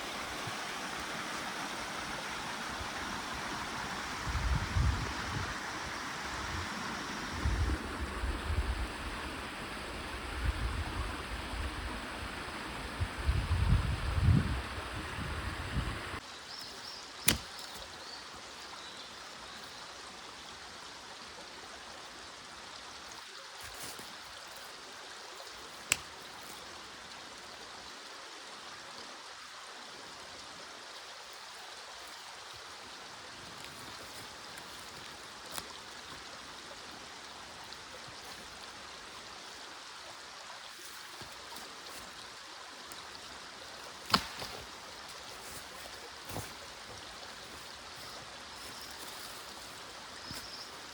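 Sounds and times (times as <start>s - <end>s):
stream flowing: 0.0s - 50.9s.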